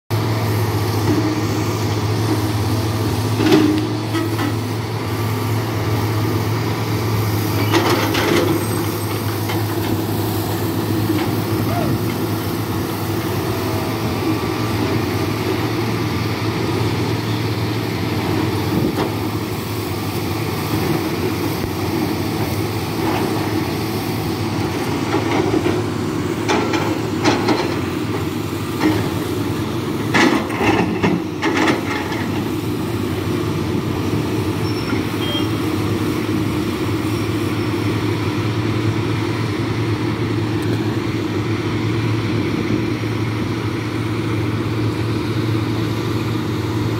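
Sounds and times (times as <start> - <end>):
excavator diesel engine running: 0.1 - 46.9.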